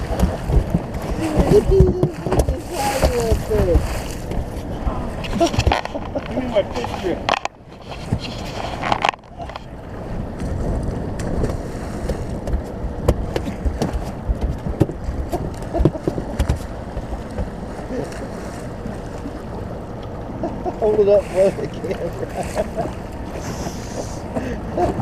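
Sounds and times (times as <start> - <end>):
boat motor rumble: 0.0 - 25.0
water: 0.0 - 25.0
wind: 0.0 - 25.0.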